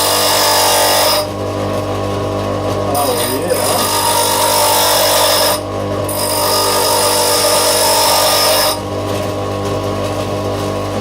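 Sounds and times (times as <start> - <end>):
bench grinder humming: 0.0 - 11.0.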